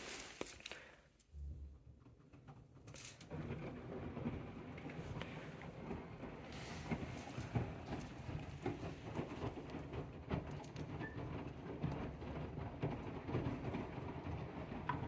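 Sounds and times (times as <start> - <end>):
washing machine drum rumbling: 1.4 - 15.0
wet laundry knocking and sloshing: 1.8 - 15.0.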